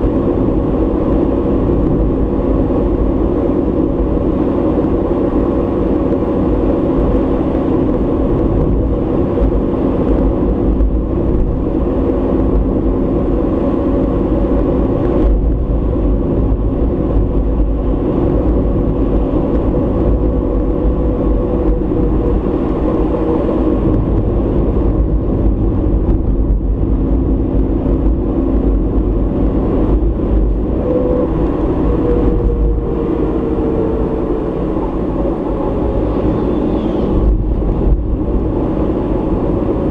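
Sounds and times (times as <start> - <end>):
car engine and tyre rumble: 0.0 - 39.9
steady hum: 0.0 - 39.9.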